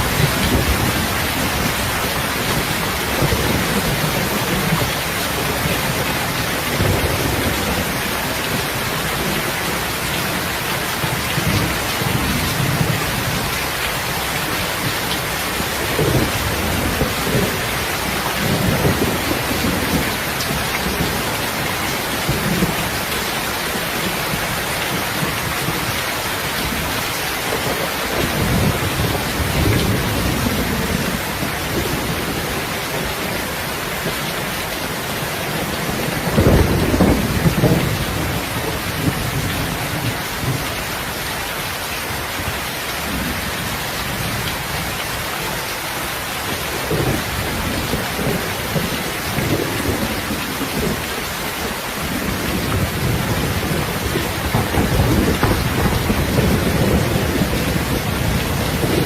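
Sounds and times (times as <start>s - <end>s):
low rolling thunder: 0.0s - 13.6s, 14.8s - 26.0s, 26.6s - 34.5s, 35.2s - 40.7s, 46.8s - 59.0s
heavy rain hiss: 0.0s - 59.0s.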